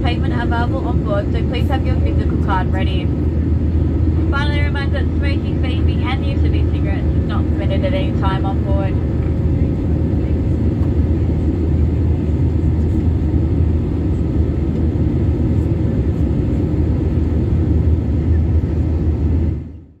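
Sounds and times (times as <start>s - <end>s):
jet airliner cabin noise: 0.0s - 20.0s.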